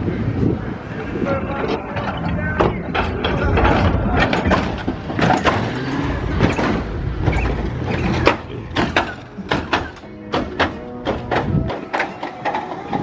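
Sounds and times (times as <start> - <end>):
low engine rumble: 0.0 - 13.0
hydraulic suspension clacks and clunks: 1.6 - 13.0.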